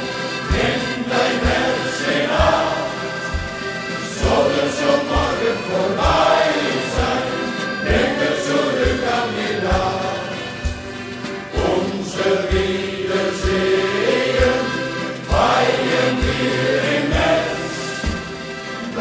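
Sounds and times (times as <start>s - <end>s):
accordion: 0.0s - 19.0s
choir singing: 0.0s - 19.0s.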